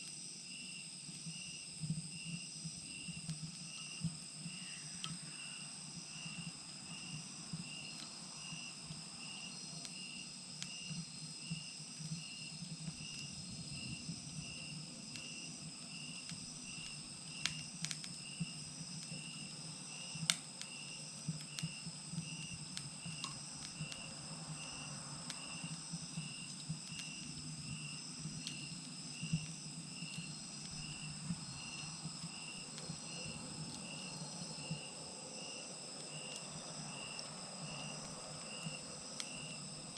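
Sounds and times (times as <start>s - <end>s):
crickets chirping: 0.0s - 39.9s
wood fire crackling and popping: 1.1s - 39.9s.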